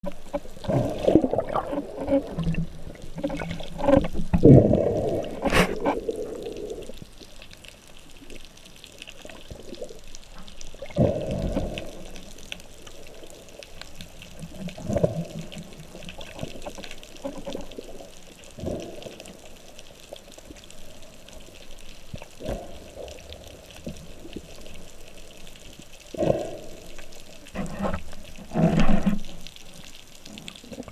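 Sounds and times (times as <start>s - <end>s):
muffled underwater hiss: 0.0s - 30.9s.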